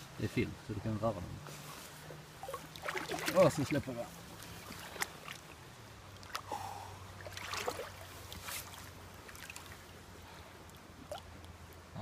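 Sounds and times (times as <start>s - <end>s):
water splashing and sloshing: 1.5s - 11.9s.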